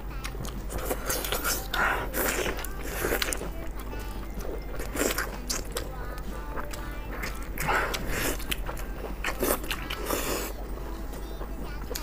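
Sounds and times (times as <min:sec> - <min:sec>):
background music: 0:00.0 - 0:12.0
wet chewing and mouth clicks: 0:00.0 - 0:12.0.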